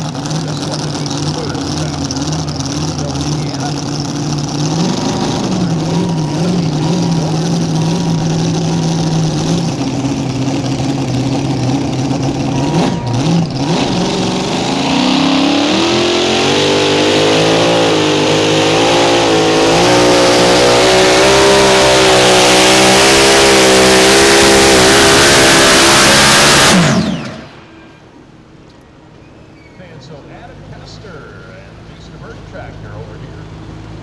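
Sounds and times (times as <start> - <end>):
pulling tractor engine revving: 0.0 - 28.2.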